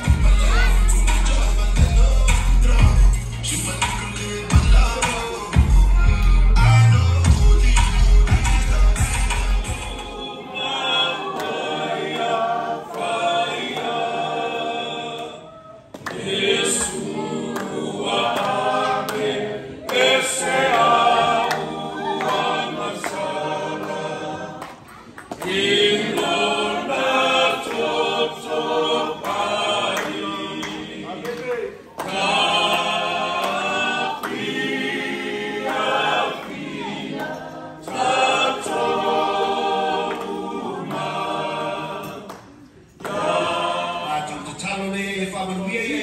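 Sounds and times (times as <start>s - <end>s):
group singing unaccompanied: 0.0s - 46.0s.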